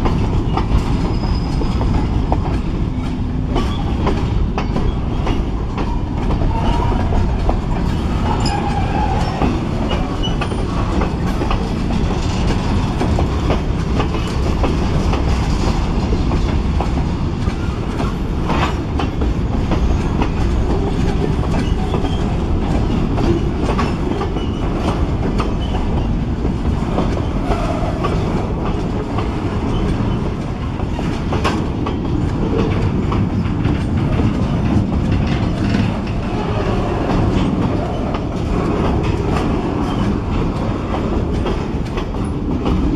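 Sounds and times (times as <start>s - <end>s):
train wheels rumbling on rail: 0.0s - 42.9s
wheels clacking over rail joints: 0.0s - 42.9s.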